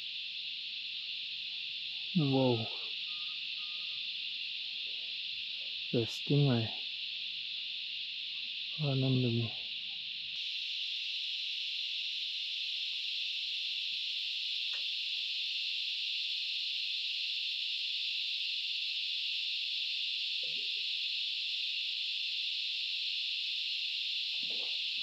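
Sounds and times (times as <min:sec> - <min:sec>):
cicada chorus: 0:00.0 - 0:25.0.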